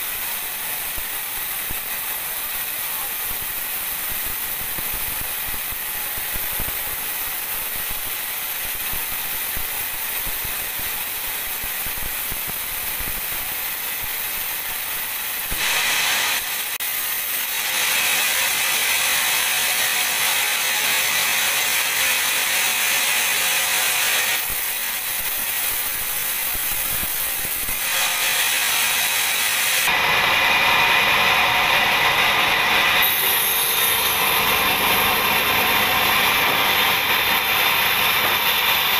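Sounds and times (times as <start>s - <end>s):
band saw cutting a log: 0.0s - 38.9s.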